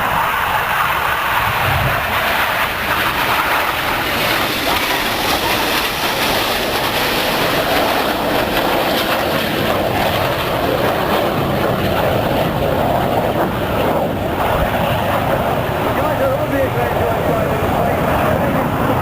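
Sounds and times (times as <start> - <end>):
jet engines flying past: 0.0 - 19.0.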